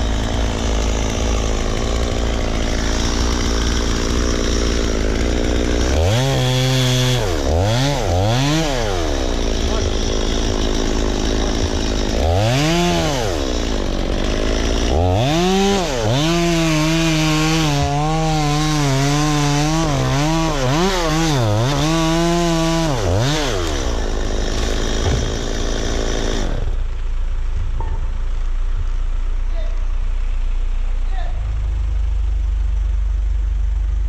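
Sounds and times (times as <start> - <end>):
chainsaw revving and cutting wood: 0.0 - 27.3.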